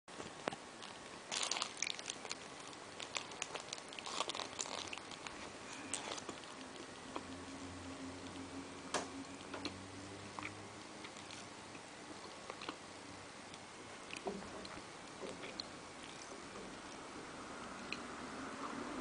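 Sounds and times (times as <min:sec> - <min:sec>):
low steady hum: 0:00.1 - 0:19.0
person chewing food: 0:00.2 - 0:08.5, 0:09.2 - 0:12.8, 0:13.4 - 0:17.0.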